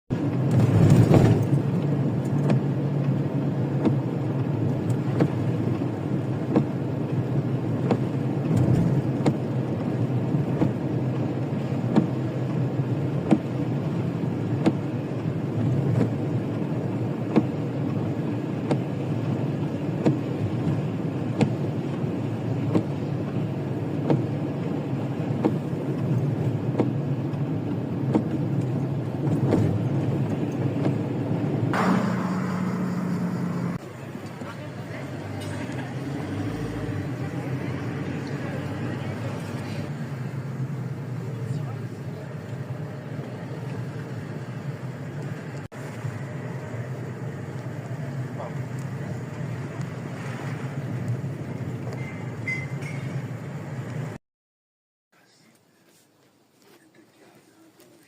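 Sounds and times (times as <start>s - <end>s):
vehicle engine and road rumble: 0.0s - 54.2s.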